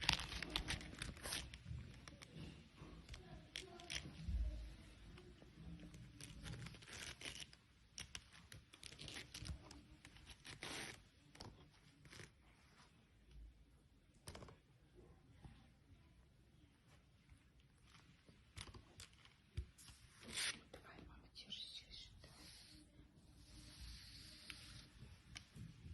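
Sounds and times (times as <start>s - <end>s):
faint scratching and crinkling: 0.0s - 25.9s.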